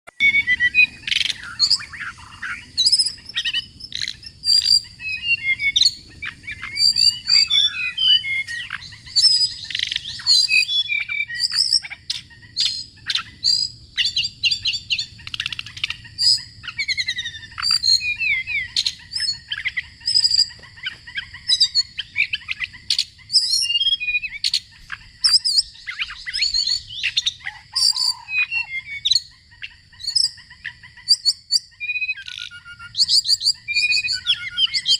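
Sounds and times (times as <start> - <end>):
small songbirds singing: 0.1 - 34.9.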